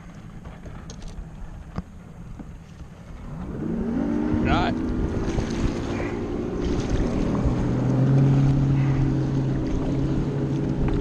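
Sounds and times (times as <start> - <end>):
outboard motors running: 0.0 - 11.0.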